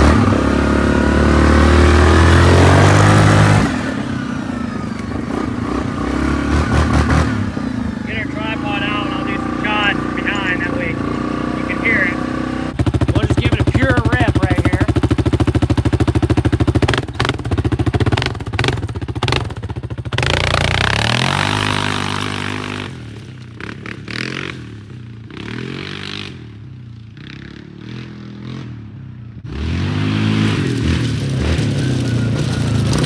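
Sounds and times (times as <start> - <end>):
atv engine revving: 0.0 - 24.7, 29.4 - 33.0.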